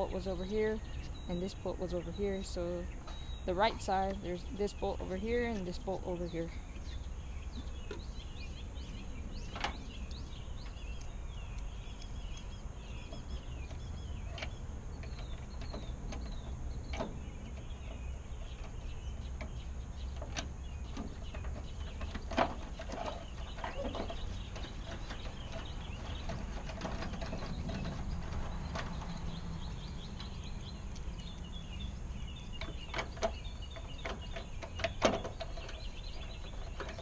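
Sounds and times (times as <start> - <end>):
low outdoor rumble: 0.0 - 37.0
small birds chirping: 0.0 - 37.0.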